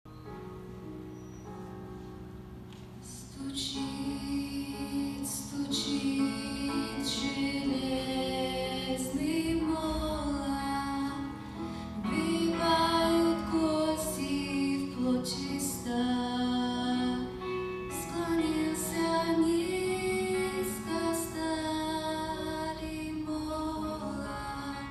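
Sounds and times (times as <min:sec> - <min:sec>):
gentle instrumental music: 0:00.1 - 0:24.9
woman singing: 0:03.0 - 0:24.9.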